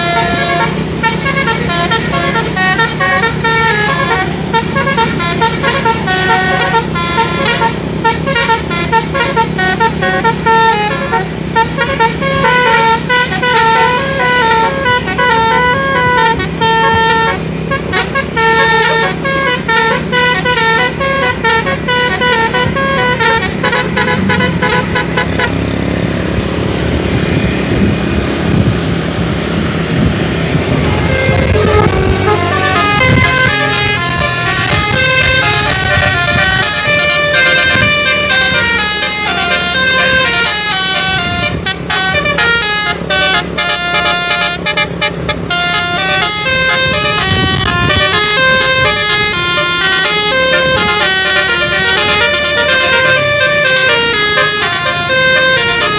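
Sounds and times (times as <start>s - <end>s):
musical air horn tune: 0.0s - 25.7s, 30.5s - 55.9s
bus engine running: 0.0s - 55.9s
road noise: 0.0s - 55.9s.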